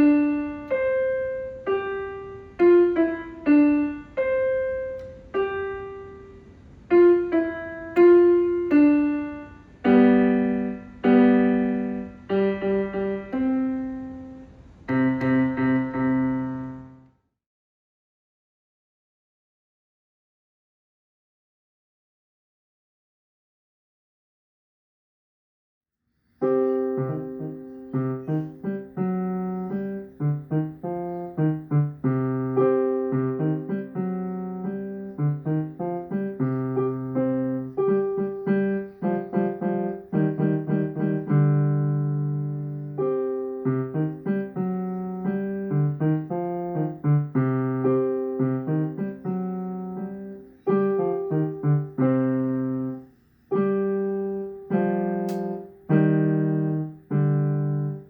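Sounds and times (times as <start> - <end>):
piano piece: 0.0 - 17.1, 26.4 - 58.0.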